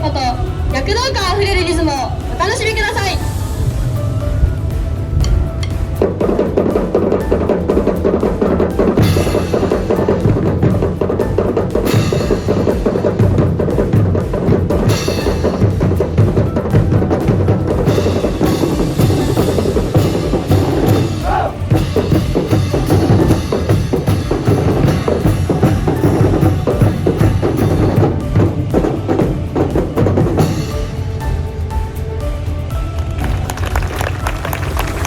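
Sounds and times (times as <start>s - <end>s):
marching drums and cymbals: 0.0s - 35.0s
sustained tones: 0.0s - 35.0s.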